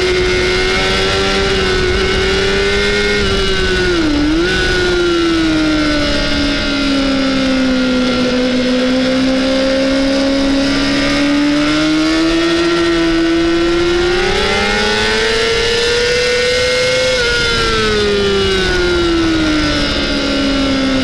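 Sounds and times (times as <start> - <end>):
motorcycle engine at high revs: 0.0 - 21.0
wind rush: 0.0 - 21.0.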